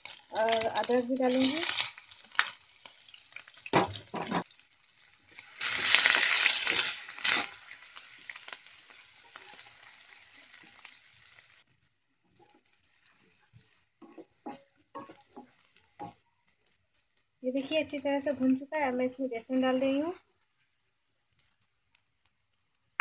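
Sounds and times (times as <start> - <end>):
chillies sizzling in hot oil: 0.0 - 23.0.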